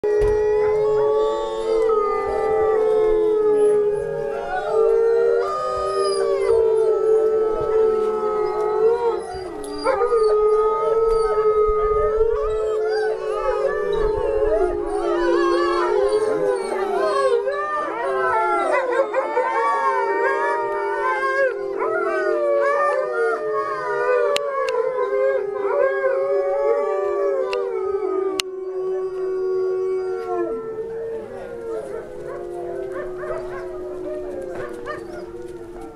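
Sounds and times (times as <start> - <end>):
wolves howling in chorus: 0.0 - 35.9.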